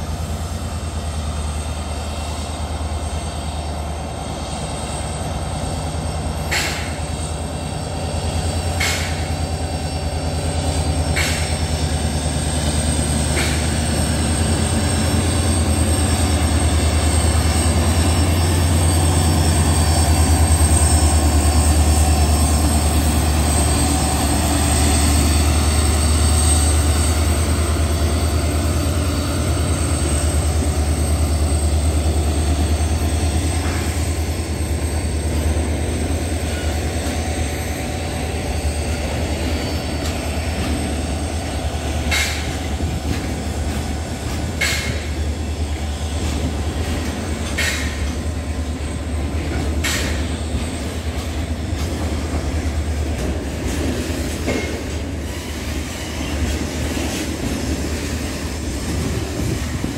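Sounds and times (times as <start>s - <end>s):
diesel locomotive engine humming: 0.0s - 59.9s.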